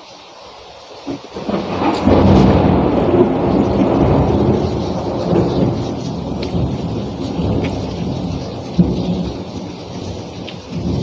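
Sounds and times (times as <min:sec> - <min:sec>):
heavy rain: 0:00.0 - 0:11.0
thunder rumble: 0:01.0 - 0:11.0.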